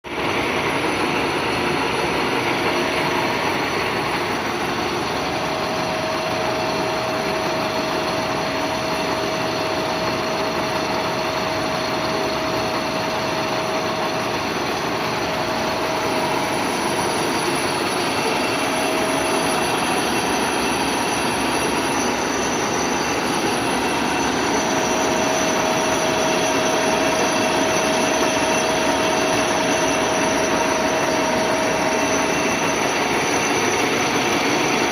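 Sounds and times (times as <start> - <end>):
milling machine running with whine: 0.1 - 34.9.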